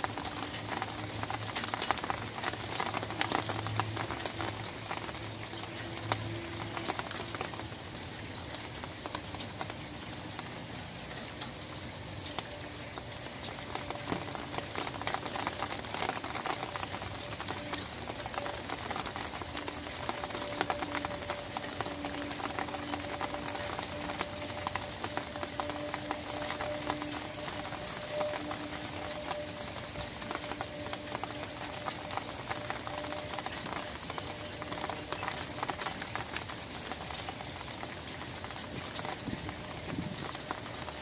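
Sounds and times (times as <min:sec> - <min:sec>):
rain pattering on umbrella: 0:00.0 - 0:41.0.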